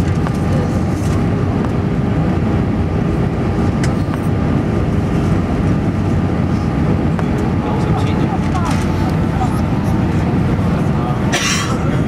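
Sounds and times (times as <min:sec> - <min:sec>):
jet engine and airflow noise: 0:00.0 - 0:12.0.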